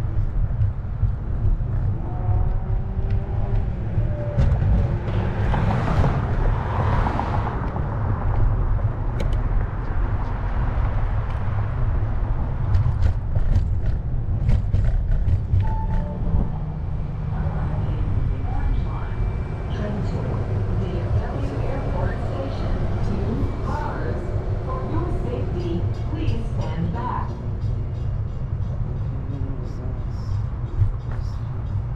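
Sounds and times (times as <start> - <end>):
wind buffeting camera: 0.0 - 29.0
road noise: 0.0 - 31.9.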